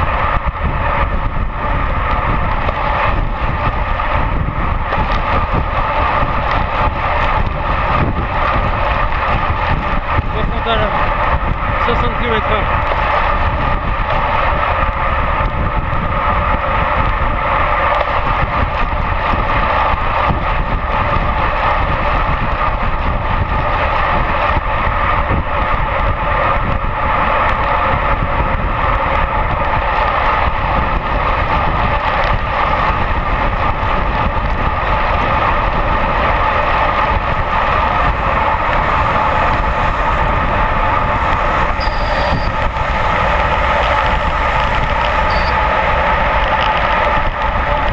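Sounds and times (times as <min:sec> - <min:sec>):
bicycle tyre rumble: 0:00.0 - 0:47.9
wind rushing: 0:00.0 - 0:47.9.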